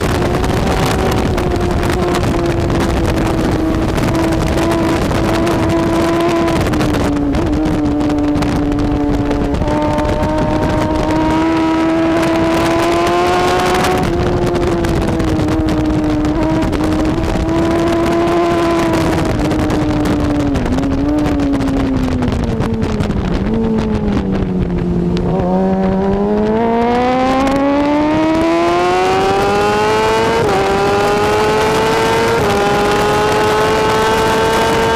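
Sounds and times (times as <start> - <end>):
superbike engine at high revs: 0.0 - 34.9.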